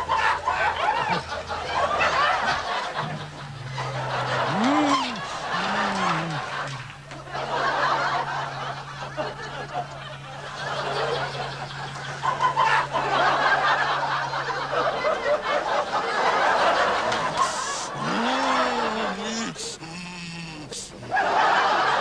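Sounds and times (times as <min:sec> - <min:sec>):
people laughing: 0:00.0 - 0:22.0
steady low hum: 0:00.0 - 0:22.0.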